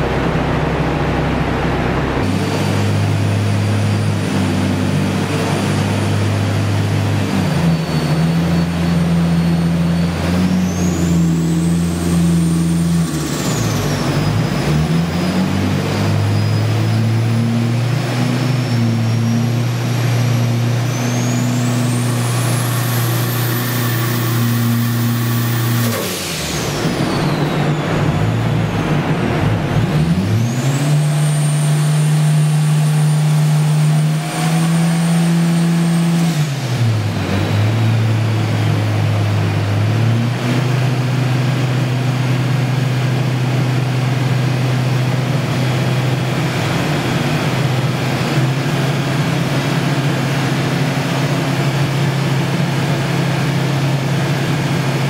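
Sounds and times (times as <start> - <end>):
engine running under load: 0.0 - 55.0.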